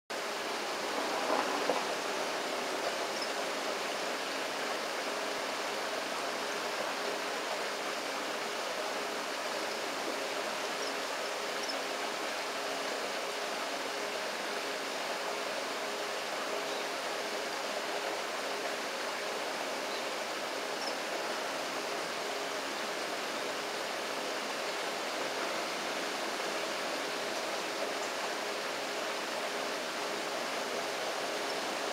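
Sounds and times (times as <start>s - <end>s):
river water rushing: 0.1s - 31.9s.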